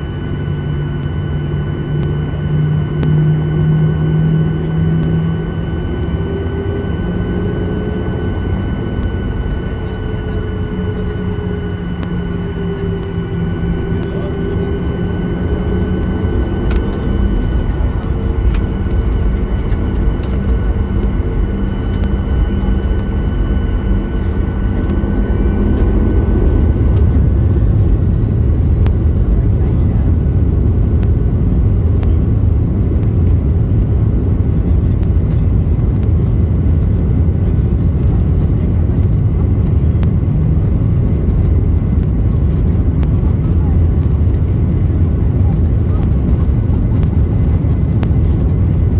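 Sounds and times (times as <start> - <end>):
deep engine rumble: 0.0 - 48.9
jet engine hum with whine: 0.0 - 48.9.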